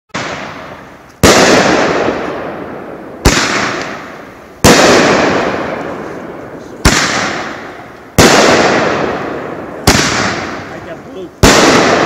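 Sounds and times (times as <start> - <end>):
sharp firework bangs: 0.2 - 12.0.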